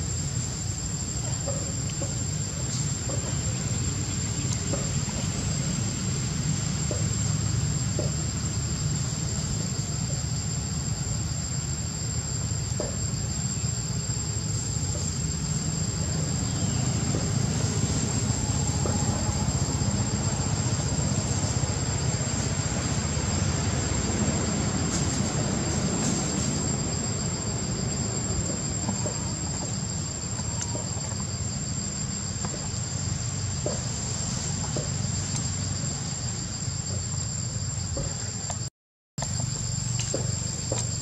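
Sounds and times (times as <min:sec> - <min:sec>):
constant low rumble: 0:00.0 - 0:41.0
insects whining: 0:00.0 - 0:41.0
lower insect buzz: 0:00.0 - 0:41.0.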